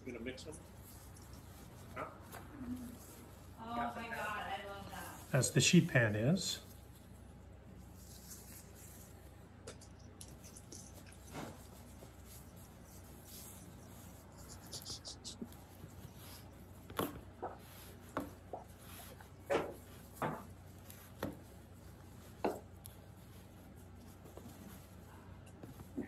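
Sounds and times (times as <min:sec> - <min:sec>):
cloth rustling: 0:00.1 - 0:26.0.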